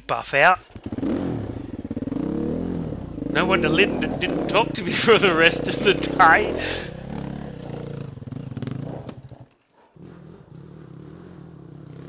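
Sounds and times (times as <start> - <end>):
dirt bike engine revving: 0.8 - 9.4, 10.0 - 12.0.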